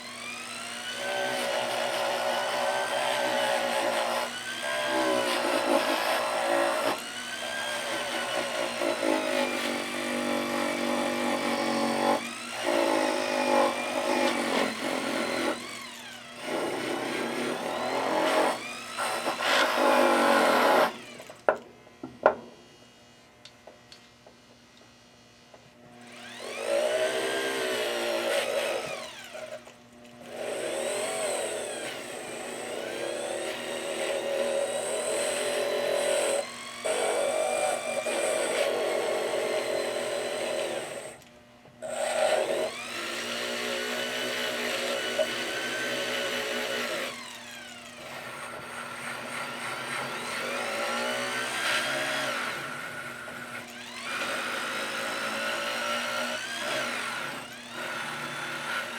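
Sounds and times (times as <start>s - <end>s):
electric wire brush tool whining: 0.0s - 22.0s, 26.0s - 41.3s, 41.9s - 58.9s.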